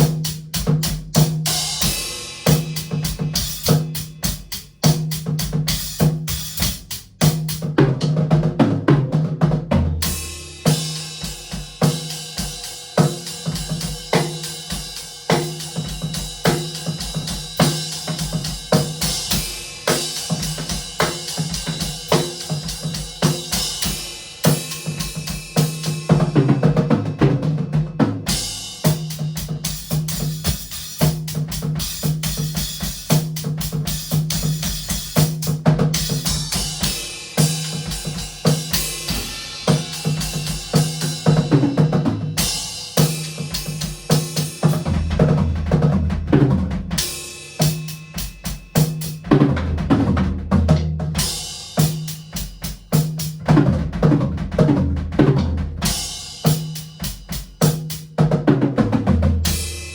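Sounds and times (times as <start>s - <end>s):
bass drum: 0.0s - 59.9s.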